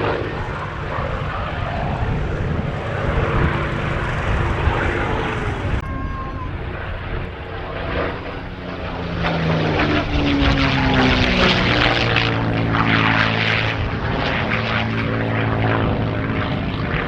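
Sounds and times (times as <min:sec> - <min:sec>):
propeller aircraft passing: 0:00.0 - 0:17.0.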